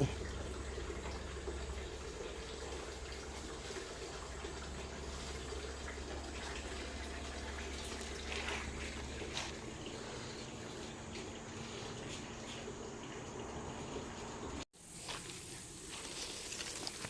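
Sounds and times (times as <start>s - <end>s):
running and dripping water: 0.0s - 17.0s.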